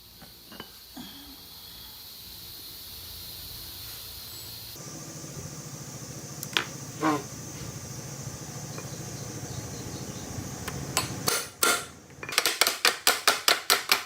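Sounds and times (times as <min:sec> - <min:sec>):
steady background hum: 0:00.0 - 0:13.7.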